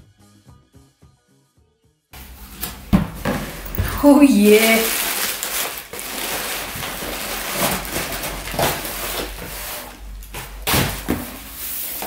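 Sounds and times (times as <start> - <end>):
cardboard rustling and scraping: 2.2 - 12.0.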